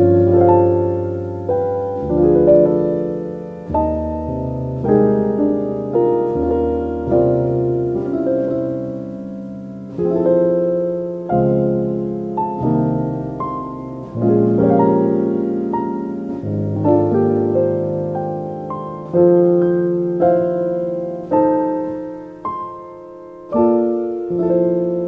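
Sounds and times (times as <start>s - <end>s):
slow calm piano music: 0.0s - 25.0s.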